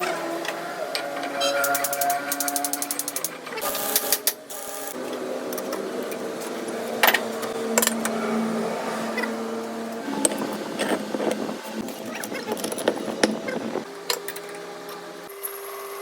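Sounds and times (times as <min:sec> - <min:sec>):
workshop machine humming: 0:00.0 - 0:14.2.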